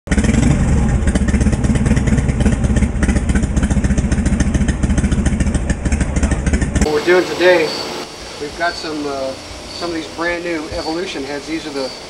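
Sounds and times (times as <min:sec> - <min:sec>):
motorcycle engine running: 0:00.1 - 0:12.0.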